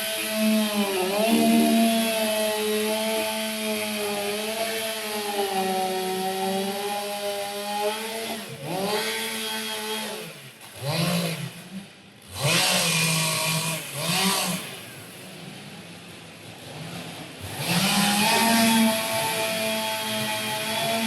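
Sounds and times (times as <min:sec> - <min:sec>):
chainsaw engine revving: 0:00.0 - 0:15.1, 0:16.7 - 0:21.0.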